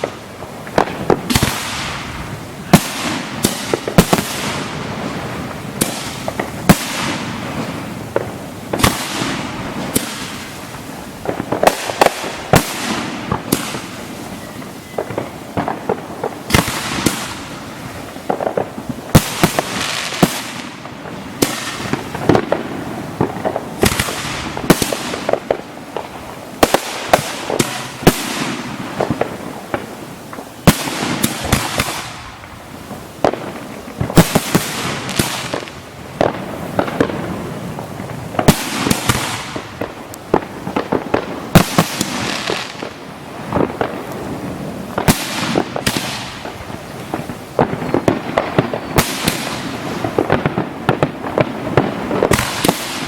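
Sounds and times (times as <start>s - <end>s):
fireworks crackling and hissing: 0.0s - 53.0s
fireworks shells booming: 0.0s - 53.0s.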